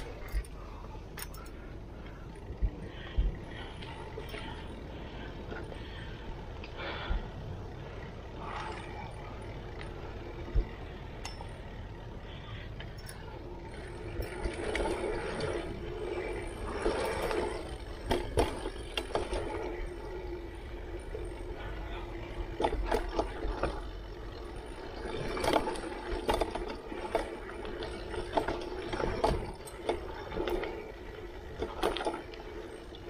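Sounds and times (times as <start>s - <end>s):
bike clattering and rattling: 0.0s - 33.0s
bike tyres rumbling on dirt: 1.8s - 33.0s.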